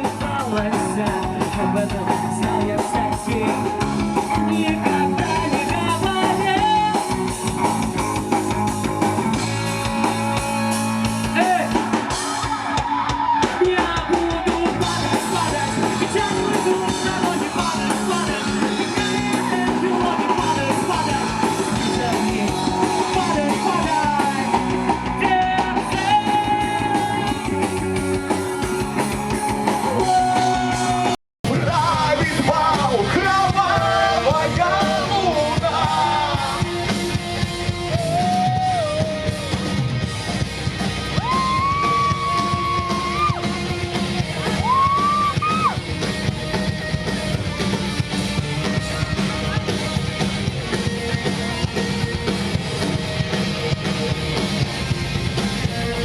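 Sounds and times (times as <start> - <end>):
rock band music: 0.0 - 56.0.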